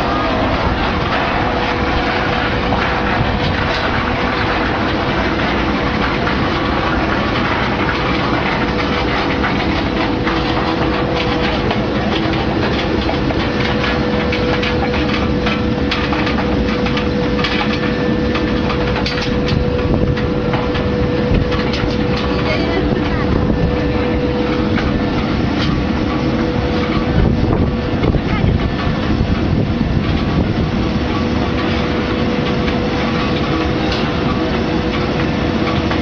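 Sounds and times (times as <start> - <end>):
machine din with hum: 0.0 - 36.0.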